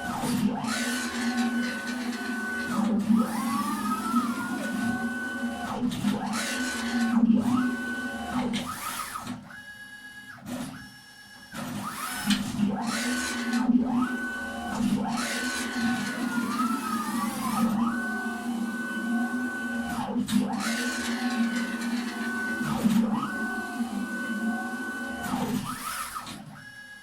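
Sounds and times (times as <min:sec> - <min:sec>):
machine drive motors whining: 0:00.0 - 0:10.8, 0:11.6 - 0:27.0.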